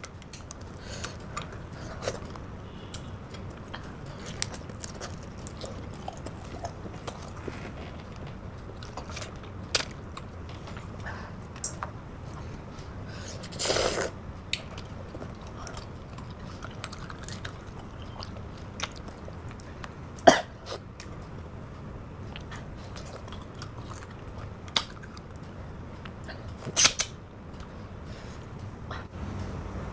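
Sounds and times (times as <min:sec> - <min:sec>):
chewing clicks and smacks: 0:00.0 - 0:11.9, 0:14.4 - 0:20.0, 0:20.9 - 0:27.7.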